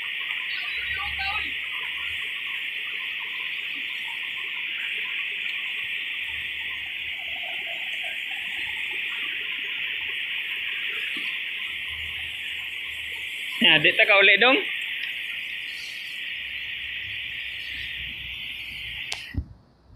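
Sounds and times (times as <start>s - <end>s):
high-pitched insect drone: 0.0s - 19.3s.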